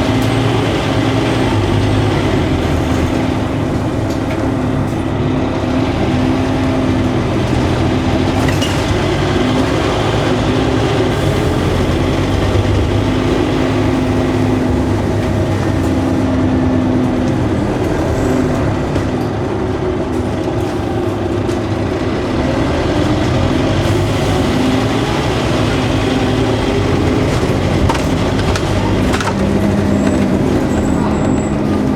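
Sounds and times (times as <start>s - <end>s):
bus engine running: 0.0s - 31.9s.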